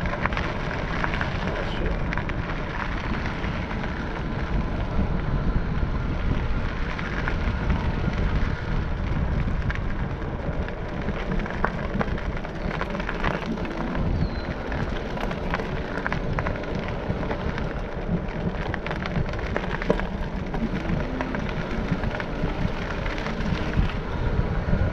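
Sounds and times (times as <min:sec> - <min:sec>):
small clicks from road: 0:00.0 - 0:24.9
wind buffeting microphone: 0:00.0 - 0:24.9.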